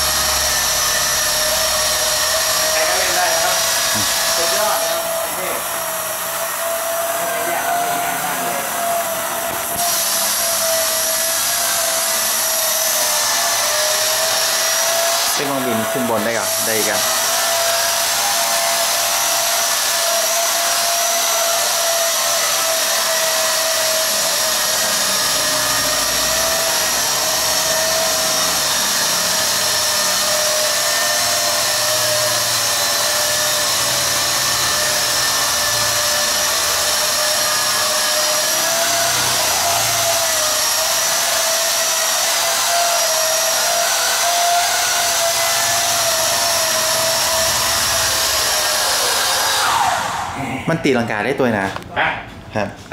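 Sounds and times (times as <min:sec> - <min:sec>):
drone propellers buzzing: 0:00.0 - 0:50.8.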